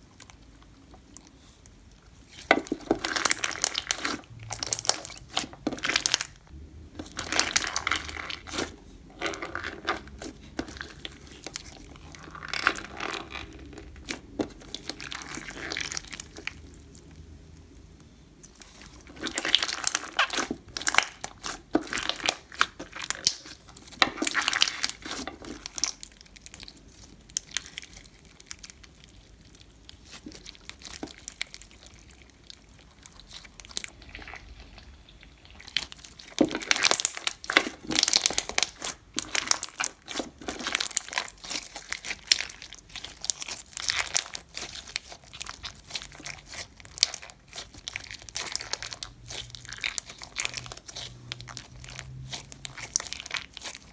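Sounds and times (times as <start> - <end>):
beaded slime crackling and popping: 2.3 - 17.1, 18.4 - 53.9.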